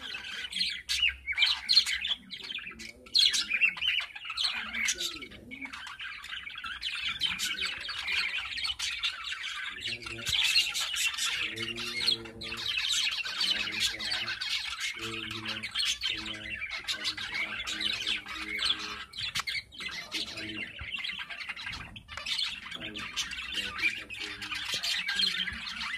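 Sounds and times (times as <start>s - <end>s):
budgerigars chirping and squawking: 0.0s - 25.9s.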